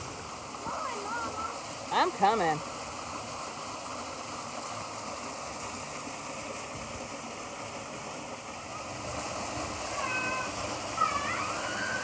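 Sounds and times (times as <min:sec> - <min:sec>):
creek waterfall rushing: 0:00.0 - 0:12.0.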